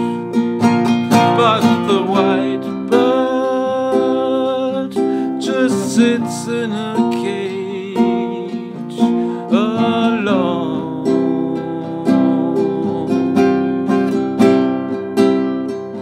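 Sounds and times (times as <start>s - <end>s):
classical guitar strumming: 0.0s - 16.0s
man singing: 0.9s - 14.5s.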